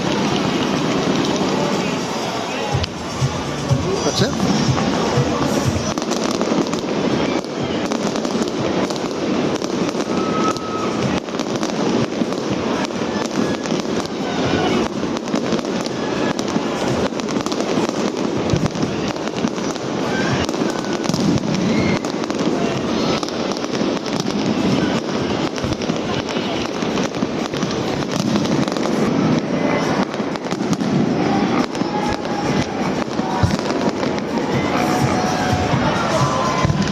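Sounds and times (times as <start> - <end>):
fireworks bangs and pops: 0.0 - 36.9.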